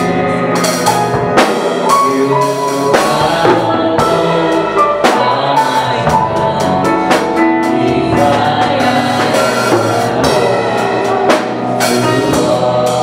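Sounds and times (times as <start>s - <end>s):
drum kit beating: 0.0s - 13.0s
gospel worship music: 0.0s - 13.0s
sustained instrumental chords: 0.0s - 13.0s
singing: 1.4s - 13.0s.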